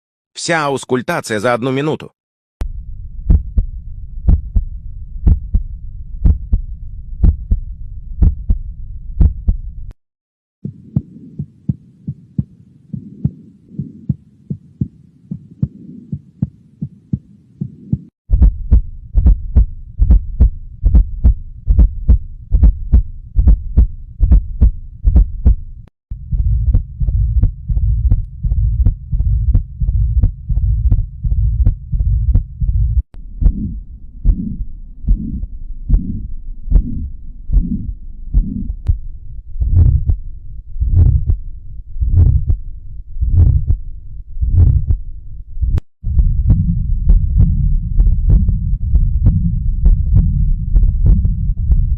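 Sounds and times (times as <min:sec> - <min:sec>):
low hum: 0:02.6 - 0:10.0, 0:10.6 - 0:51.9
heartbeats through stethoscope: 0:03.2 - 0:09.7, 0:10.6 - 0:40.2, 0:40.8 - 0:41.4, 0:42.0 - 0:42.6, 0:43.2 - 0:43.8, 0:44.4 - 0:45.0, 0:45.6 - 0:51.9.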